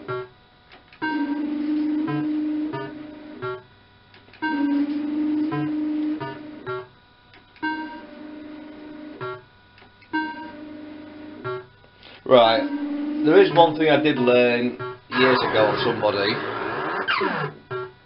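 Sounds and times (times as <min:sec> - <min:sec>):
fruit machine electronic tone: 0:01.0 - 0:03.7, 0:04.4 - 0:07.0, 0:07.6 - 0:18.0
fruit machine run of notes: 0:01.0 - 0:03.7, 0:04.4 - 0:07.0, 0:07.6 - 0:18.0.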